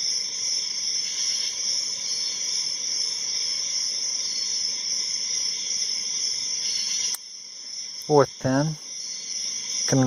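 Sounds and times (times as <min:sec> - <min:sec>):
high-pitched hiss with whine: 0:00.0 - 0:10.0.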